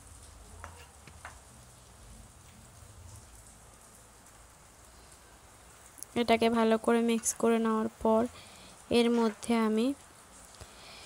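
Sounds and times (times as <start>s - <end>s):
gravy sizzling and bubbling: 0.0s - 11.0s.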